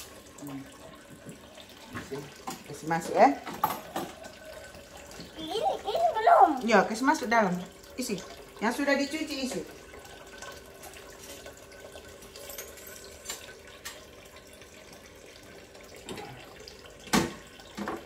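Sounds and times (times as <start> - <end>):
tap water running into sink: 0.0 - 18.0.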